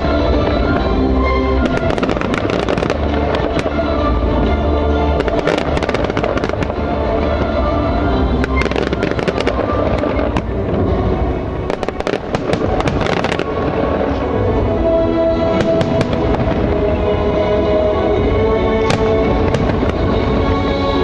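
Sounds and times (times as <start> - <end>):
fireworks bangs and crackles: 0.0 - 21.0
music: 0.0 - 21.0.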